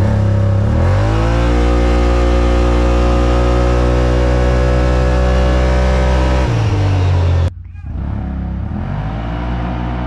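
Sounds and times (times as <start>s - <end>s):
engine at full throttle: 0.0s - 10.0s.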